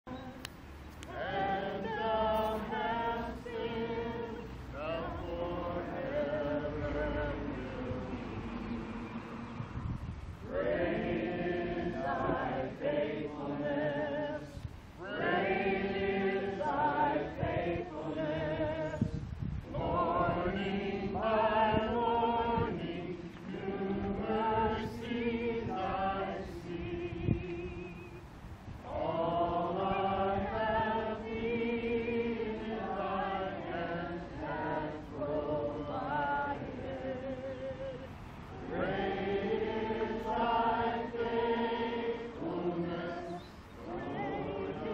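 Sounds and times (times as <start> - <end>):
group of people singing: 0.1 - 44.9.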